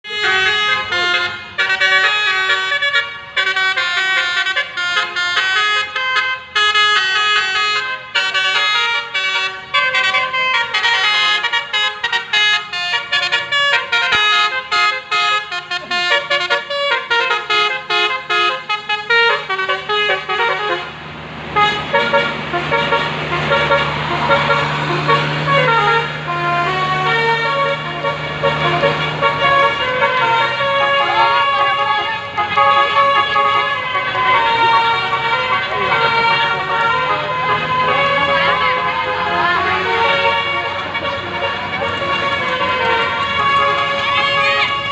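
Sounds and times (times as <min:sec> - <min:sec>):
multi-tone musical bus horn: 0:00.0 - 0:44.9.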